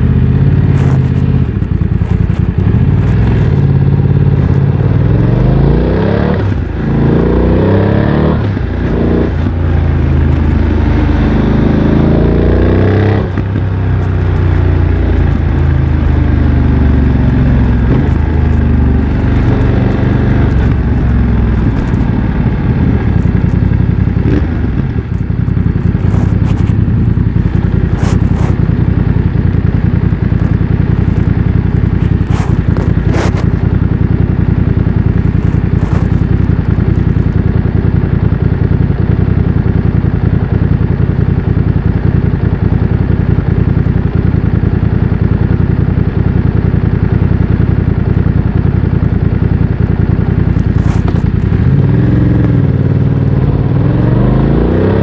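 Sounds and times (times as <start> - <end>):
motorcycle engine accelerating: 0.0 - 55.0
motorcycle engine droning: 0.0 - 55.0.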